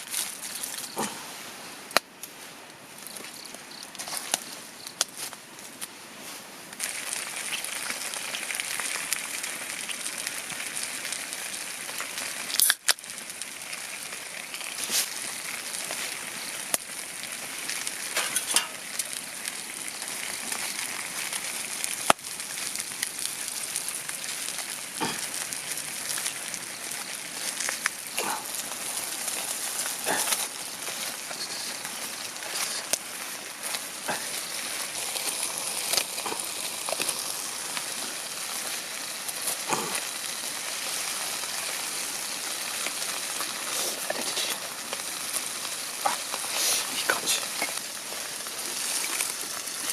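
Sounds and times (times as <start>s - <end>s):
sharp pops and cracks: 0.0s - 1.2s, 1.9s - 2.4s, 3.0s - 6.0s, 6.7s - 49.9s
food sizzling in a pan: 6.8s - 49.9s.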